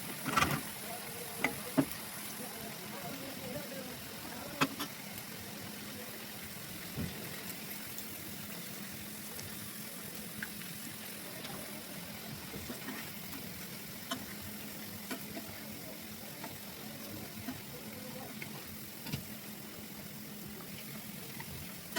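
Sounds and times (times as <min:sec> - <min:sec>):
food sizzling in a pan: 0:00.0 - 0:21.9.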